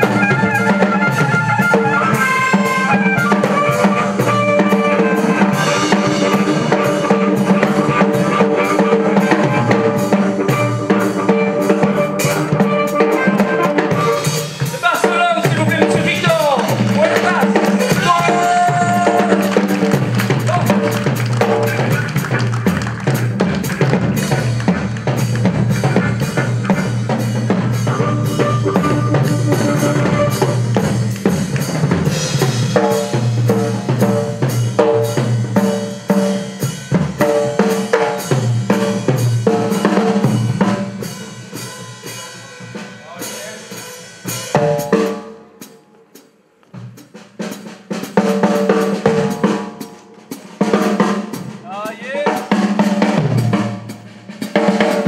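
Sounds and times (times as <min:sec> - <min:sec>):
blues band playing live: 0:00.0 - 0:55.0
drum kit: 0:00.0 - 0:55.0.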